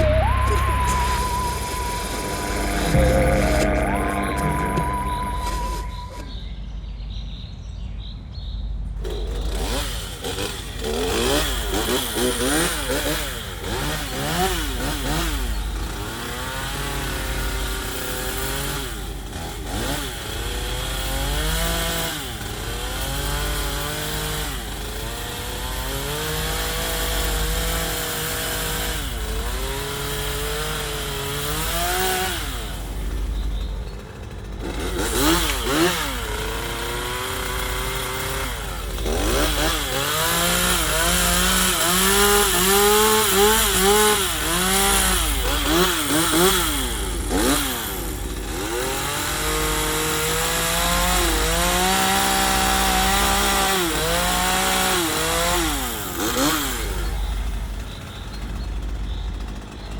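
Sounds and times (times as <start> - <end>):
chainsaw revving cutting log: 0.0 - 6.3, 9.0 - 59.9.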